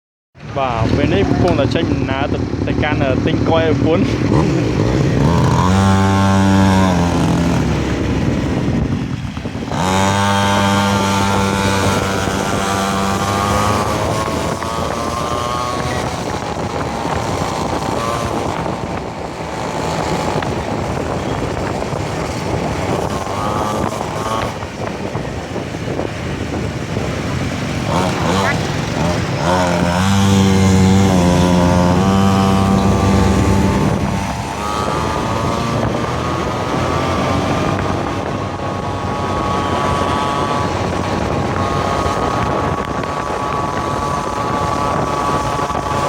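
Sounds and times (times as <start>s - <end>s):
two-stroke engine revving: 0.4s - 46.0s.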